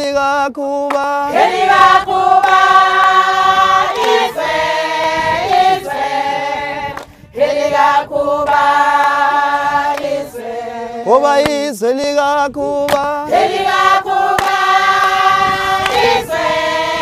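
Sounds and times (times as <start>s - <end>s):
group singing unaccompanied: 0.9s - 11.6s, 12.6s - 17.0s.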